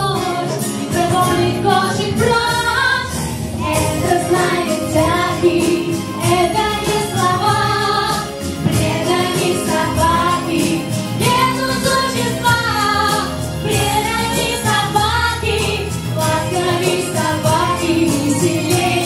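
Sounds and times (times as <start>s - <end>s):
instrumental music: 0.0s - 19.0s
woman singing: 0.0s - 19.0s.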